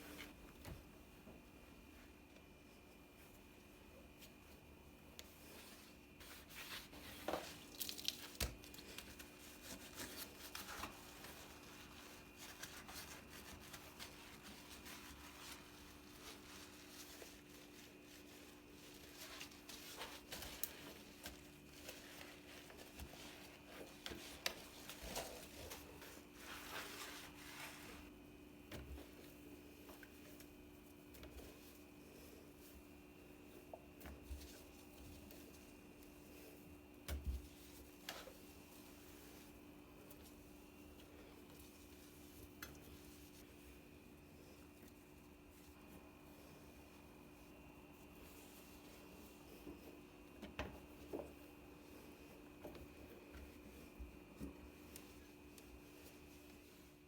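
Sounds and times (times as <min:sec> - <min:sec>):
faint steady hum: 0:00.0 - 0:57.0
rustling and crinkling: 0:00.0 - 0:57.0.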